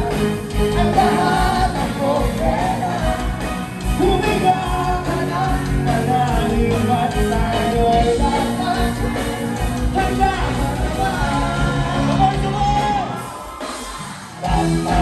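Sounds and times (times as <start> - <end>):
person singing: 0.0 - 13.2
electric guitars: 0.0 - 15.0
live band playing: 0.0 - 15.0
steady drum beat: 0.0 - 15.0.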